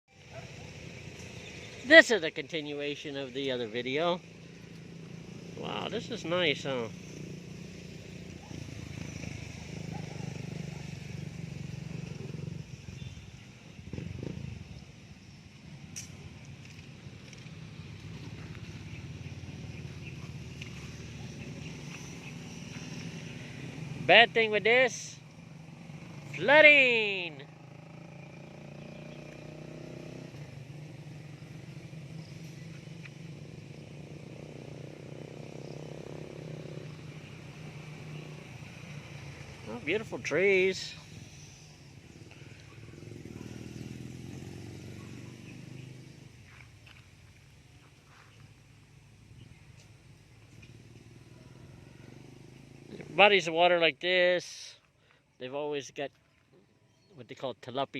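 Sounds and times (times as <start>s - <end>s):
vehicle engine running: 0.1s - 54.0s.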